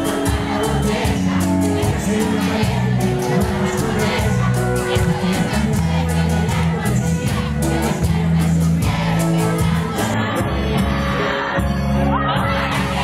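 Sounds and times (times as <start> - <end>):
live cumbia band music: 0.0 - 13.0.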